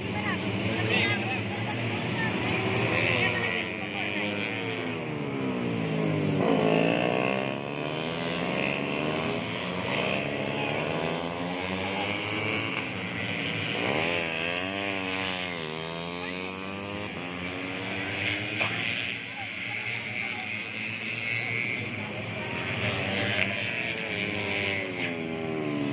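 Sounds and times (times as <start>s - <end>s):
racing motorcycle engines revving: 0.0s - 25.9s.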